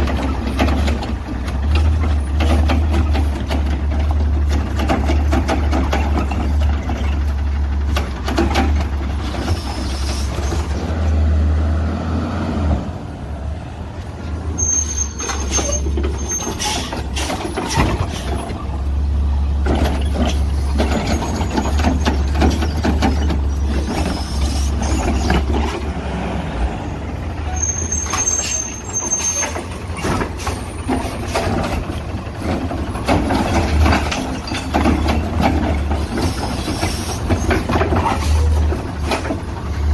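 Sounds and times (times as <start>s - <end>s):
clanks and bangs of carts: 0.0s - 10.9s, 14.4s - 25.9s, 27.4s - 39.9s
garbage truck engine rumble: 0.0s - 39.9s.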